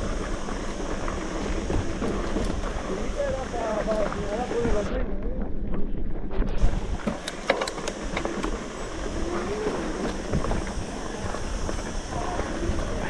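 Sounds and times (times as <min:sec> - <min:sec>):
mountain bike rattling on trail: 0:00.0 - 0:13.0
wind buffeting microphone: 0:00.0 - 0:13.0.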